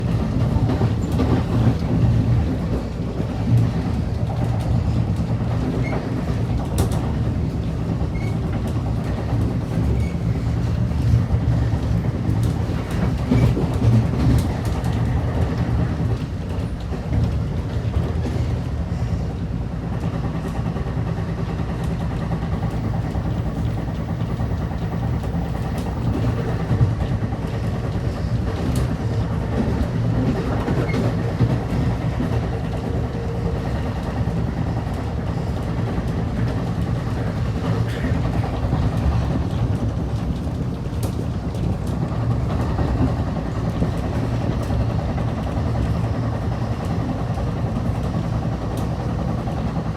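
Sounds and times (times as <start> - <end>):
train rumbling on rails: 0.0 - 49.9.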